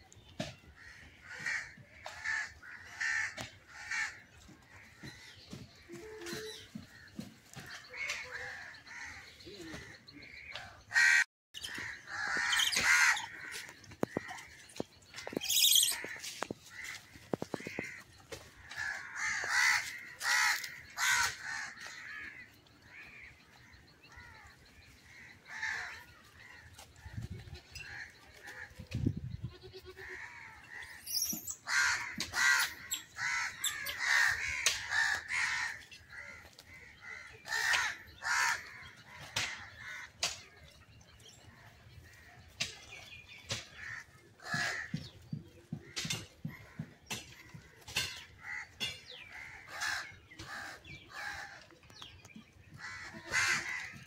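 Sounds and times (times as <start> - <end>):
birds harsh calls: 0.2 - 54.0.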